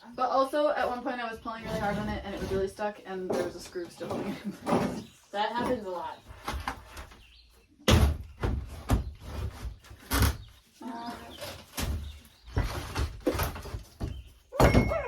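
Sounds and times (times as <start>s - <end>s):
panelling knocks and thumps: 0.8s - 10.6s, 11.3s - 15.0s.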